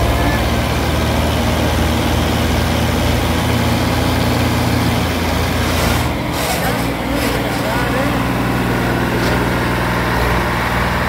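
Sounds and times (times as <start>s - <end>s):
tractor diesel engines droning: 0.0s - 11.0s.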